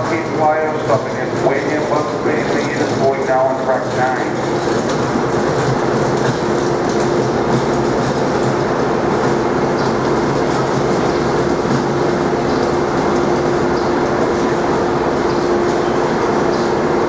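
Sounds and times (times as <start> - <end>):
constant hum: 0.0 - 17.0
train rumble: 0.0 - 17.0.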